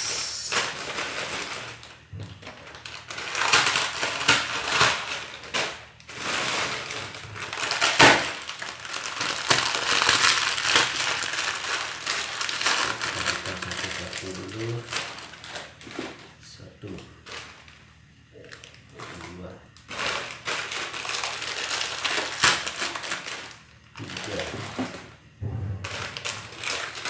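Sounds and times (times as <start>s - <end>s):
plastic packets crinkling: 0.4s - 27.0s.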